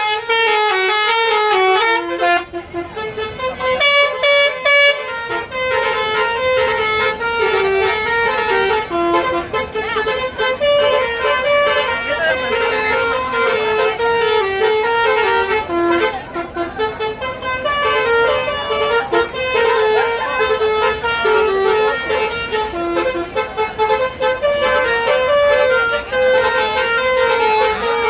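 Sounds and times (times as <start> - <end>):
musical bus horns melody: 0.0 - 28.0.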